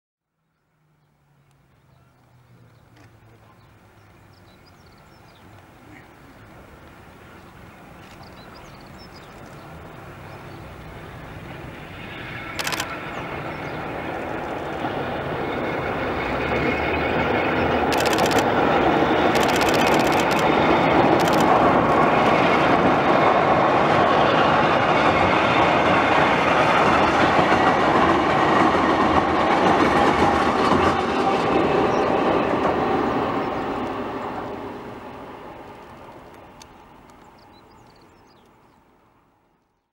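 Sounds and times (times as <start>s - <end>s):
train wheels rumbling on bridge: 6.4s - 38.4s.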